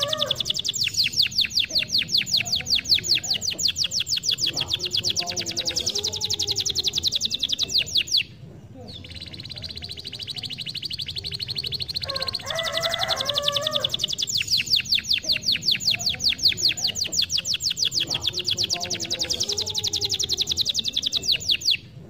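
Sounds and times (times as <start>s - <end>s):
canary singing: 0.0s - 22.0s.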